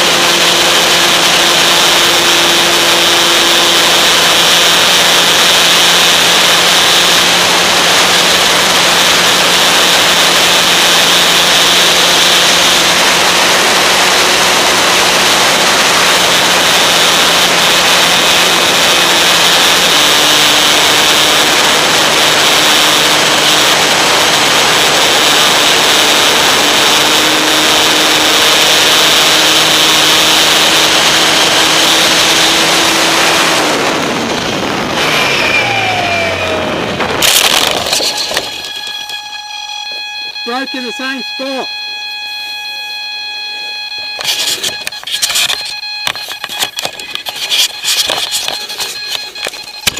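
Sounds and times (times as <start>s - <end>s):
motor and propeller hum: 0.0s - 49.9s.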